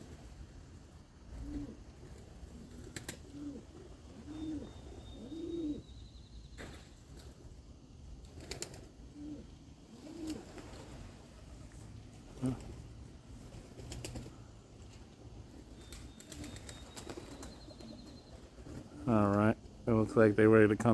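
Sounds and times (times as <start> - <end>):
pigeons cooing: 0.0 - 6.0, 8.3 - 19.8.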